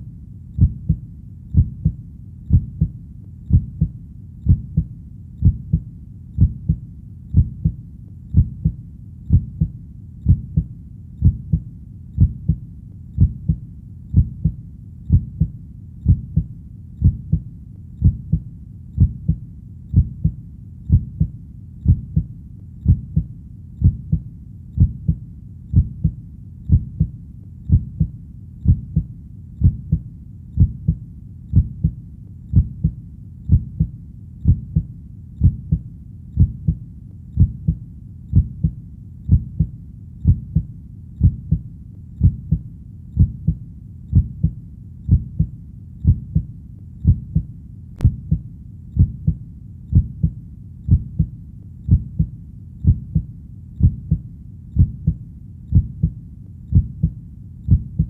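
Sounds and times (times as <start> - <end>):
faint low rumble: 0.0 - 58.0
heartbeat thumps: 0.6 - 12.6, 13.2 - 58.0.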